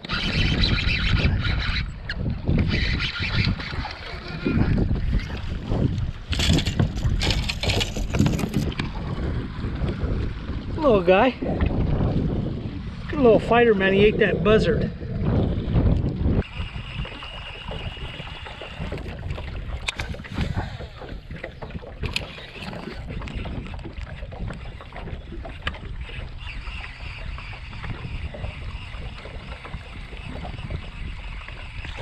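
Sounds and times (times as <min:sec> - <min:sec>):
water slapping boat hull: 0:00.0 - 0:32.0
wind buffeting microphone: 0:00.0 - 0:32.0.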